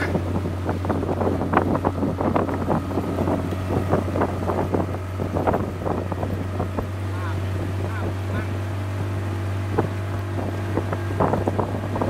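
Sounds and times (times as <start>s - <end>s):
outboard motor humming: 0.0s - 12.0s
water slapping against hull: 0.0s - 12.0s
wind buffeting microphone: 0.0s - 12.0s.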